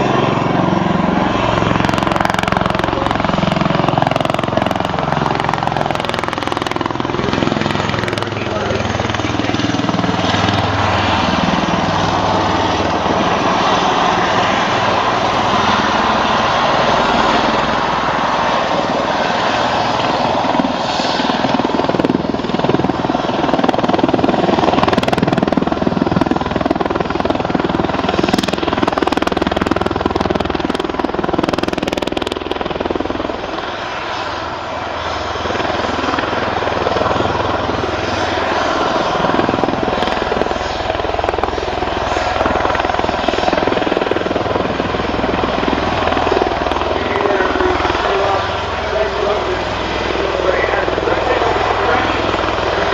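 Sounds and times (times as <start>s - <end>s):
helicopter rotor and turbine: 0.0s - 52.9s.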